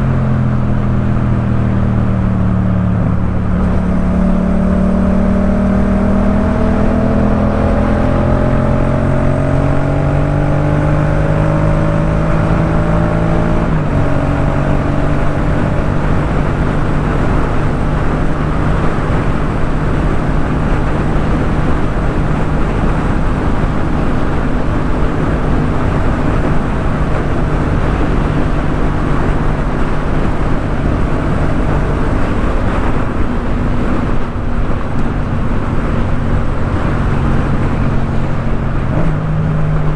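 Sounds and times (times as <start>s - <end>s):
motorcycle engine accelerating: 0.0s - 39.9s
wind rushing noise: 1.0s - 39.9s.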